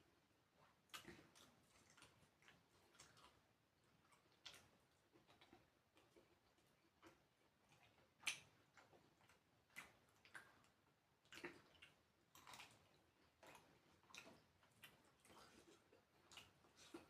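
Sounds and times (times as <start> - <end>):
person chewing: 0.9 - 3.4, 4.0 - 17.0.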